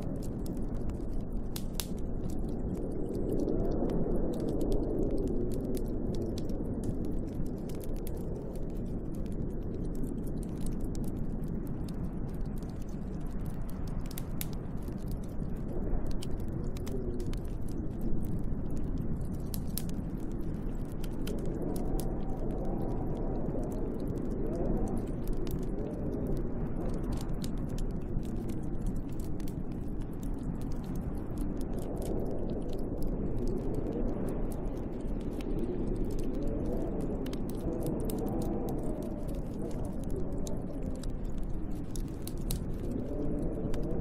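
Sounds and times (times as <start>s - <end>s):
storm wind howling: 0.0s - 44.0s
wood fire crackling: 0.0s - 44.0s.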